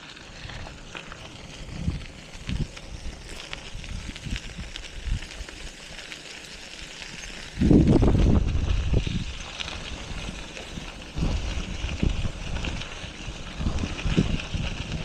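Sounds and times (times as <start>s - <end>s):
wind buffeting microphone: 0.3s - 5.8s, 7.1s - 15.0s.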